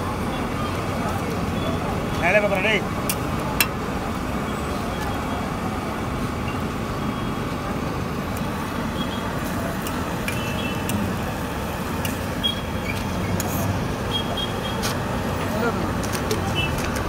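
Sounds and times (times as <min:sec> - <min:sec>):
low rumble of street noise: 0:00.0 - 0:17.0.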